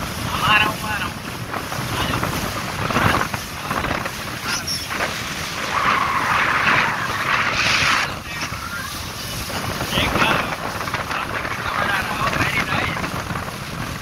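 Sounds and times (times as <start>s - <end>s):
water rushing against hull: 0.0s - 14.0s
wind buffeting microphone: 0.0s - 14.0s.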